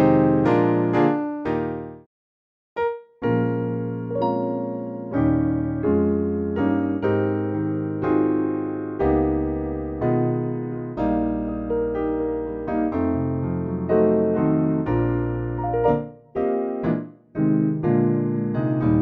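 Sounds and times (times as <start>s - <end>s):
electric piano chords: 0.0s - 2.0s, 3.2s - 19.0s.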